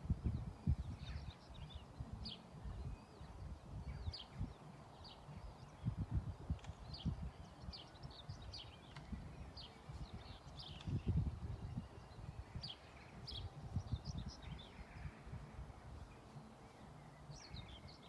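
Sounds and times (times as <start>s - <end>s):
small birds chirping: 0.0s - 18.0s
wind buffeting microphone: 0.0s - 18.0s.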